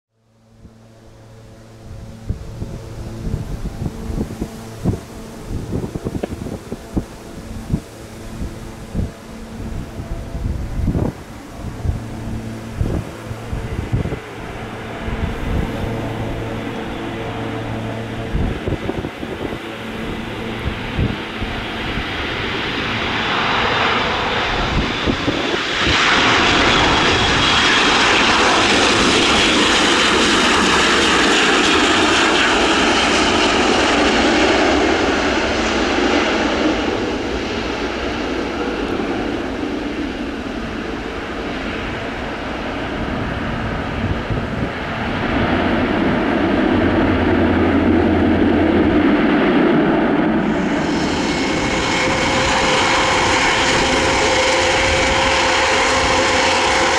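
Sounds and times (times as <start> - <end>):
turboprop aircraft engines: 0.1 - 56.9.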